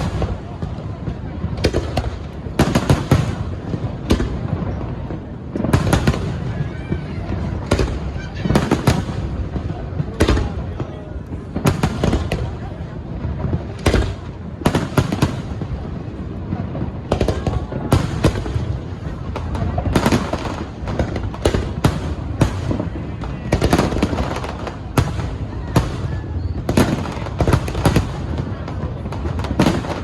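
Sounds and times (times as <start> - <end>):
distant fireworks rumble: 0.0 - 30.0
fireworks bangs and booms: 0.0 - 30.0.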